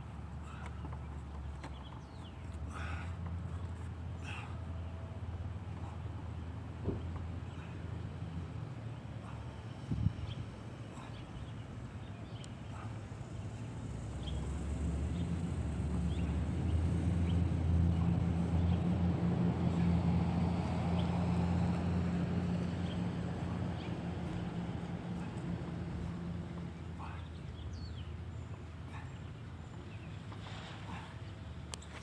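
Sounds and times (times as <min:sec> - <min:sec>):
low engine rumble: 0:00.0 - 0:32.0.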